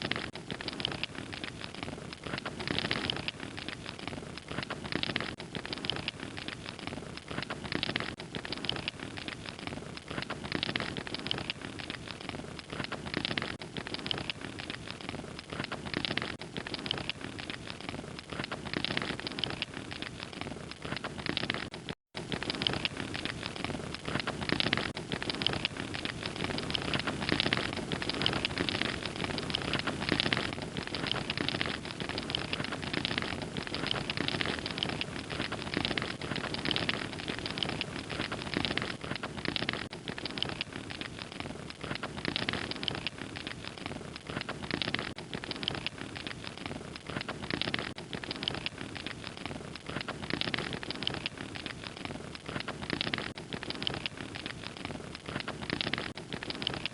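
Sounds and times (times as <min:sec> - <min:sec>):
fire crackling: 0:00.0 - 0:56.9.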